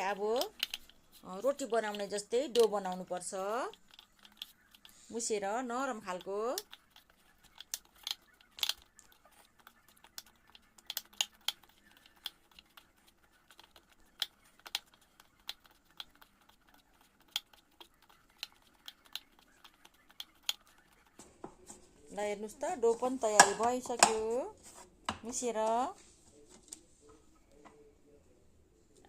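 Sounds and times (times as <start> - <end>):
hands kneading dough: 0.0 - 26.8.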